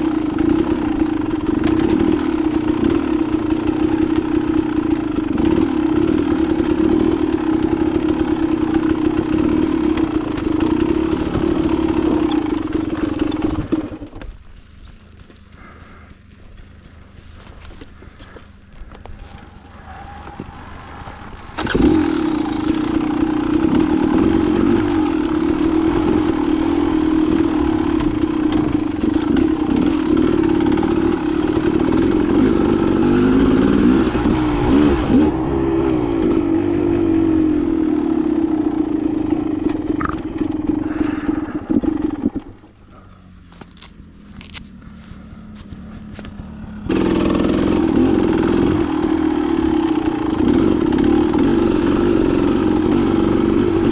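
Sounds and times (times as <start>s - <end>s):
dirt bike engine: 0.0s - 53.9s.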